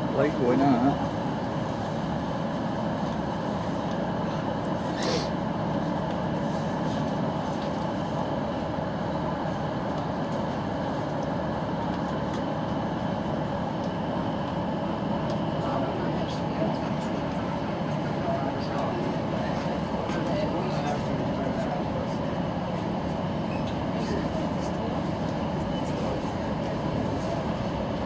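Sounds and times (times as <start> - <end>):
train running from inside carriage: 0.0 - 28.0.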